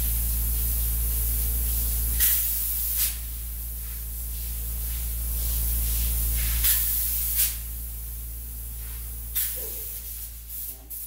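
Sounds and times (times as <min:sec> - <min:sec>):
spray foam gun hissing: 0:00.0 - 0:11.0.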